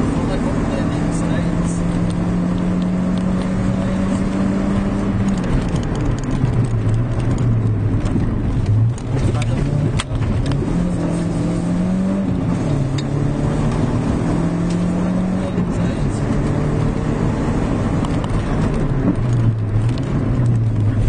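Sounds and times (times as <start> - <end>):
rally car engine revving: 0.0 - 21.0
road noise on gravel: 0.0 - 21.0.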